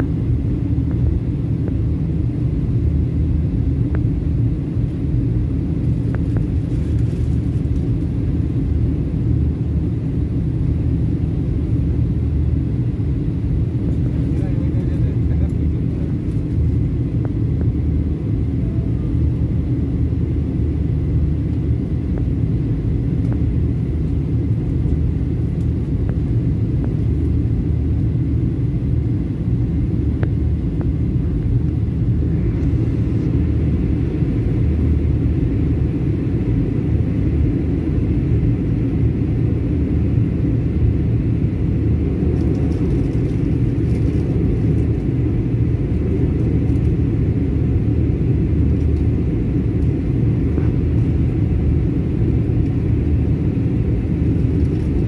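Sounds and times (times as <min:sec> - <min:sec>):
low rumble of jet engines and airflow: 0:00.0 - 0:55.0.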